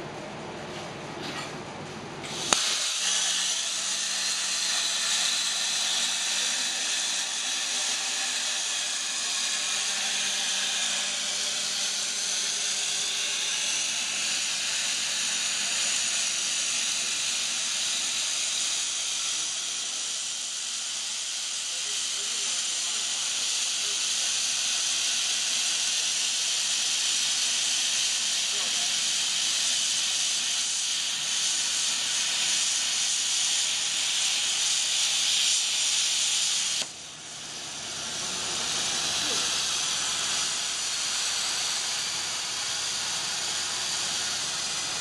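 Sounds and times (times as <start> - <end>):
plasma torch arc crack: 2.2 - 45.0
plasma torch hissing: 2.2 - 45.0.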